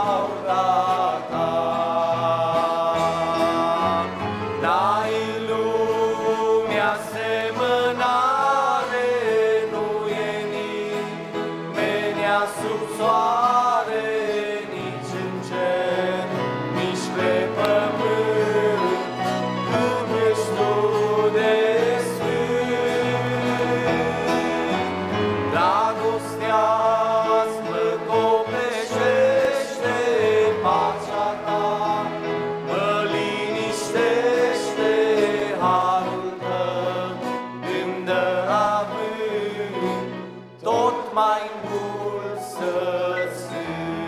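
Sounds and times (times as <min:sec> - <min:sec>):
accordion: 0:00.0 - 0:44.0
acoustic guitar: 0:00.0 - 0:44.0
male vocal quartet singing hymn: 0:00.0 - 0:44.0.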